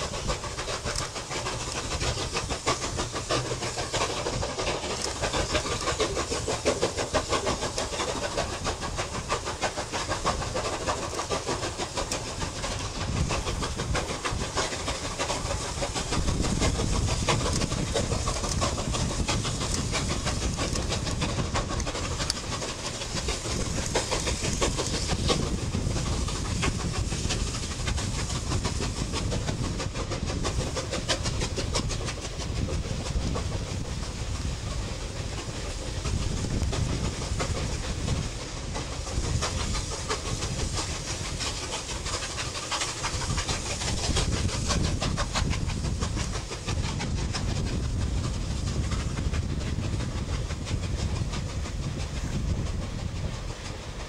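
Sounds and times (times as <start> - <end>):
hiss of steam: 0.0 - 54.0
steam locomotive exhaust beats: 0.0 - 54.0.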